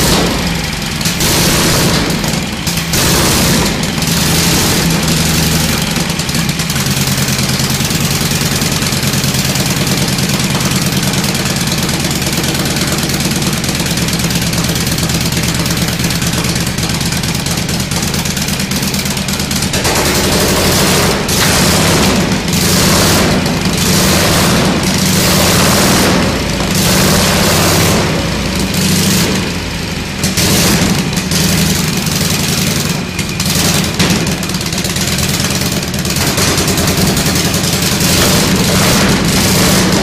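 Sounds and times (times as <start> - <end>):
v-twin motorcycle engine running: 0.0 - 40.0.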